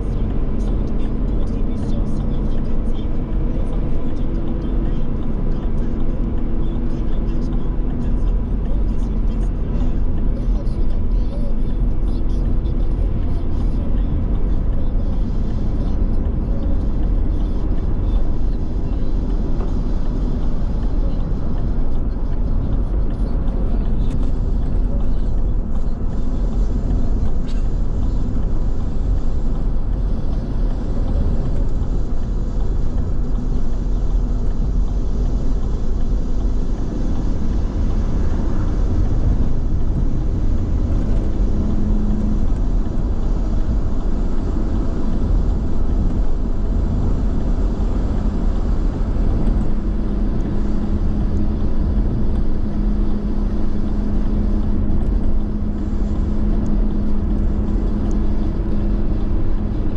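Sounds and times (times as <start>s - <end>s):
car engine and tyre rumble: 0.0s - 59.9s
low steady hum: 0.0s - 59.9s.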